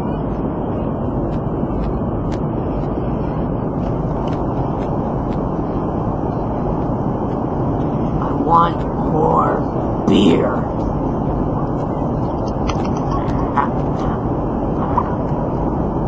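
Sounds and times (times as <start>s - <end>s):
airliner cabin noise: 0.0s - 16.0s.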